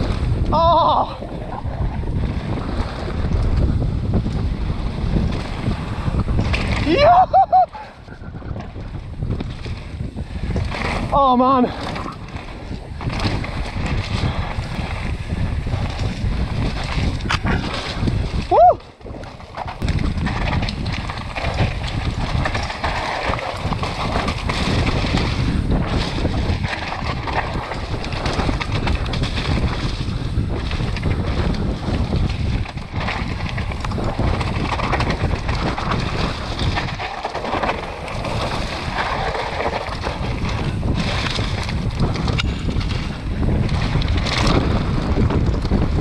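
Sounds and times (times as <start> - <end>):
bike tyres rumbling on dirt: 0.0 - 46.0
wind buffeting microphone: 0.0 - 46.0.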